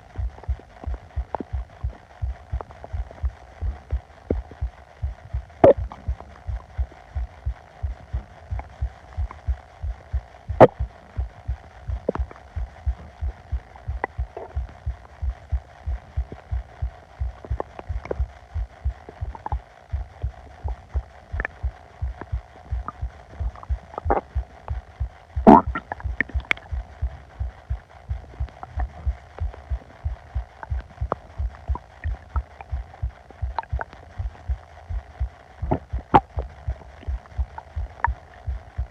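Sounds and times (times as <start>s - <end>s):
steady low pulse: 0.0s - 38.9s
stomach gurgles and squeaks: 0.0s - 38.9s.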